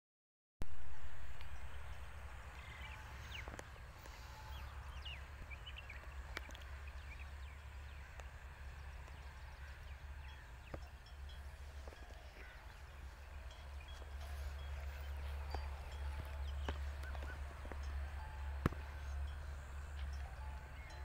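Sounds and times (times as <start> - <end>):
small birds chirping: 1.4 - 21.0.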